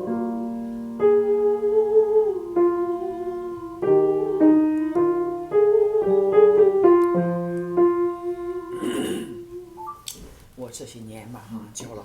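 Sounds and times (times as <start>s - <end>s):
piano chords: 0.0s - 10.1s.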